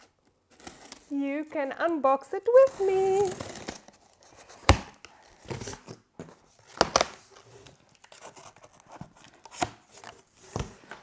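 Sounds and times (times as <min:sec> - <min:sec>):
tape tearing: 0:00.0 - 0:01.2, 0:02.6 - 0:06.0, 0:06.6 - 0:11.0
cardboard rustling: 0:00.0 - 0:11.0.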